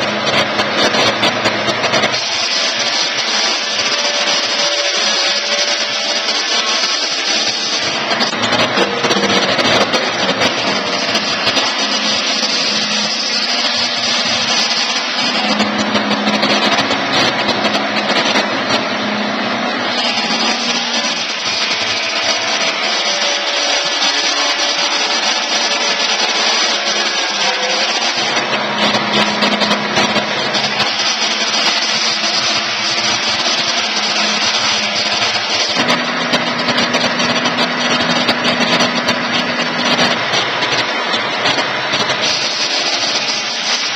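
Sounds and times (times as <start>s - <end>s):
electric sawmill running: 0.0s - 43.9s.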